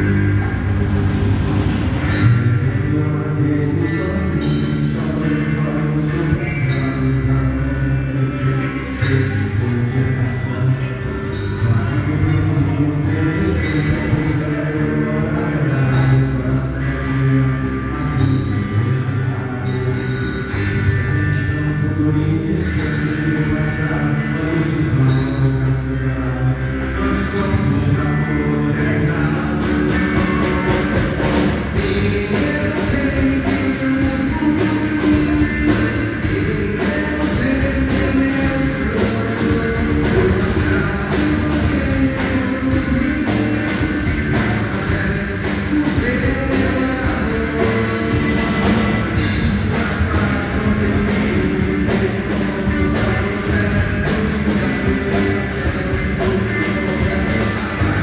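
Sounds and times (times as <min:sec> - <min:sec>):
drum kit beating: 0:00.0 - 0:25.9, 0:26.8 - 0:58.0
electric guitars: 0:00.0 - 0:58.0.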